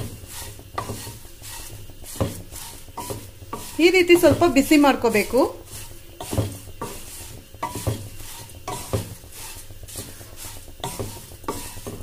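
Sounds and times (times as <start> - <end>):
spatula scraping dry flakes in pan: 0.0 - 12.0.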